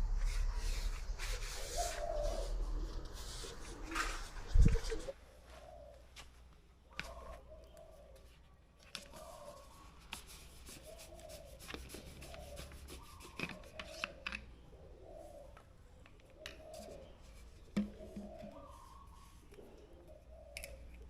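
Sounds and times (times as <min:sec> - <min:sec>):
bird calling faintly: 0:00.0 - 0:21.0.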